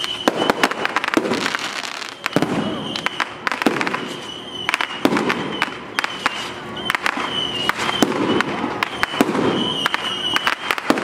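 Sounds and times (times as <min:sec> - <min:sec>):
fireworks bangs and crackles: 0:00.0 - 0:11.0
high firework whistle: 0:00.0 - 0:11.0.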